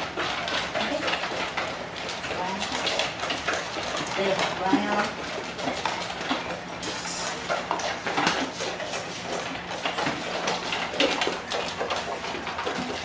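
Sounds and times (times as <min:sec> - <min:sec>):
dogs eating from metal bowls: 0:00.0 - 0:13.0.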